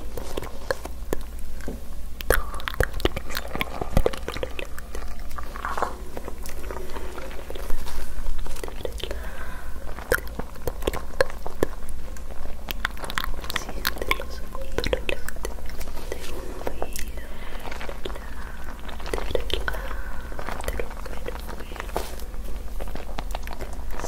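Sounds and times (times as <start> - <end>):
wet mouth clicks and crackles: 0.0 - 24.0.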